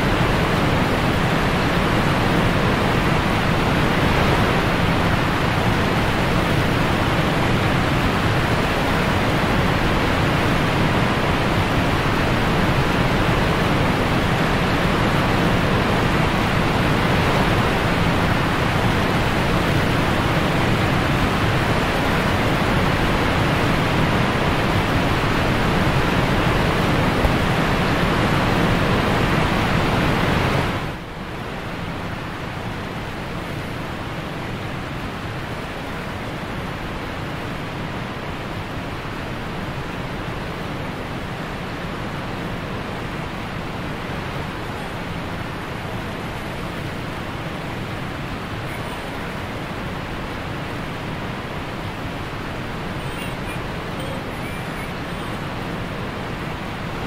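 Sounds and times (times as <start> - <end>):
whitewater rapids rushing: 0.0 - 57.0.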